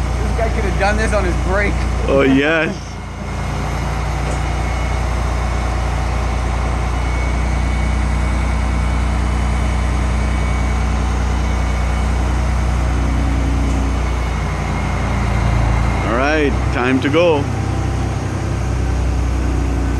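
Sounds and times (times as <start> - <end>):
heavy engine idling: 0.0 - 19.9.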